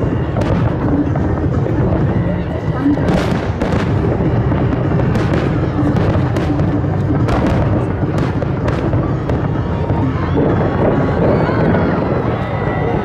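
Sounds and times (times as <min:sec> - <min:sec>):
rumble and crackle of fireworks: 0:00.0 - 0:13.0.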